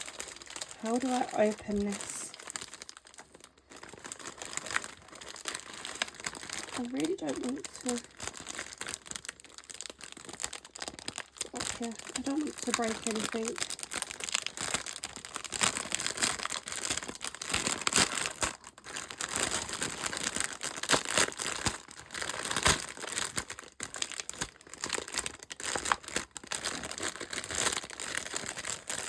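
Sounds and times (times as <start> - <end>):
packaging rustling and crinkling: 0.0 - 29.0.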